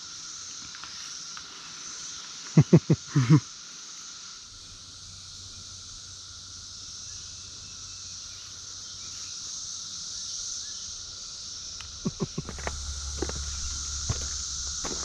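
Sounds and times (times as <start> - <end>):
cicada chorus drone: 0.0 - 15.0.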